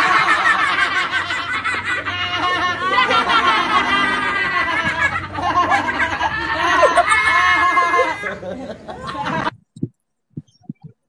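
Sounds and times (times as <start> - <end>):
boys laughing: 0.0 - 9.6.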